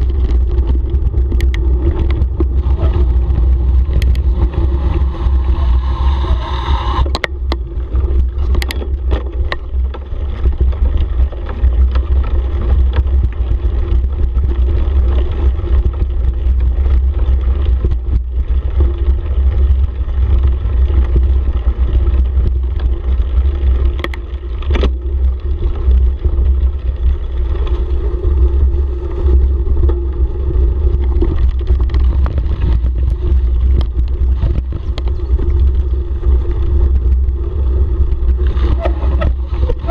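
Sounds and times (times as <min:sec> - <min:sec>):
bike clicks and rattles: 0:00.0 - 0:05.6, 0:07.0 - 0:39.9
tyres on gravel: 0:00.0 - 0:39.9
wind on microphone: 0:00.0 - 0:39.9.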